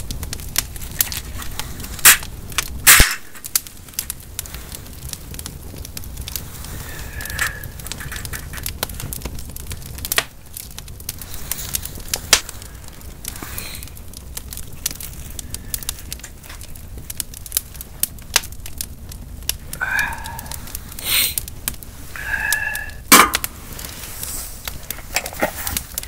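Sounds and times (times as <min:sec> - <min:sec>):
soft rustling of meat in pan: 0:00.0 - 0:26.0
wood fire crackling and popping: 0:00.0 - 0:26.0.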